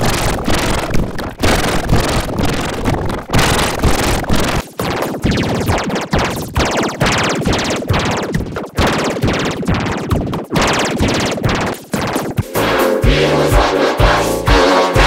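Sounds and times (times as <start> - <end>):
distorted children's song: 0.0 - 15.0.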